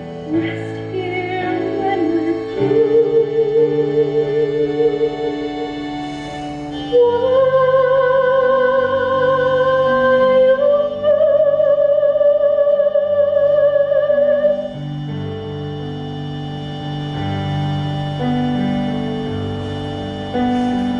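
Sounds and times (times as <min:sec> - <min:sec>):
lead melody with vibrato: 0:00.0 - 0:20.9.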